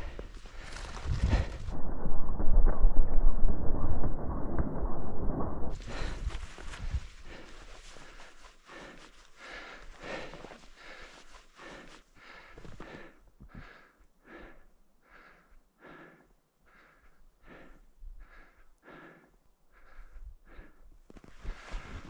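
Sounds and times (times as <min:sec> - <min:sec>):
person panting: 0:00.0 - 0:01.8, 0:05.7 - 0:22.0.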